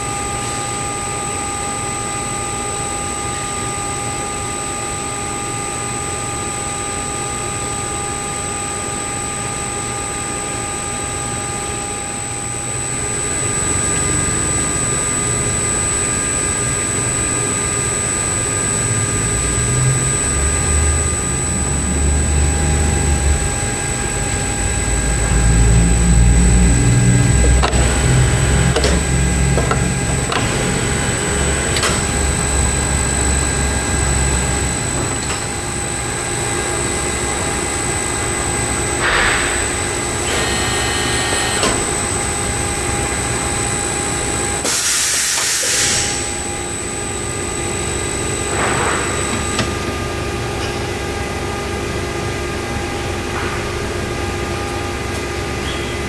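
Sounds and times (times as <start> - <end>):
machine drive humming: 0.0 - 44.7, 46.0 - 56.0
high whine: 0.0 - 56.0.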